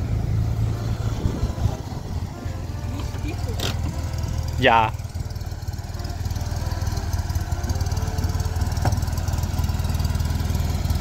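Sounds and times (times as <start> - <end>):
small car engine idling: 0.0 - 11.0.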